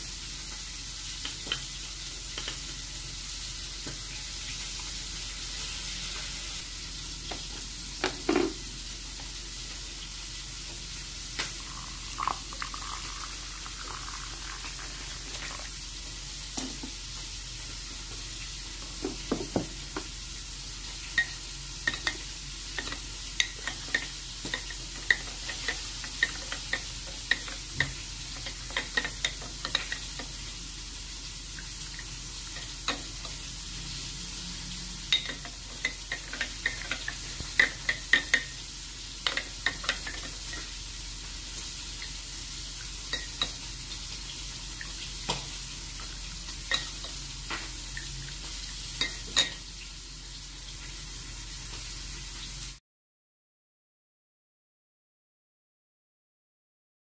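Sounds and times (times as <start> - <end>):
steady hiss: 0.0 - 52.8.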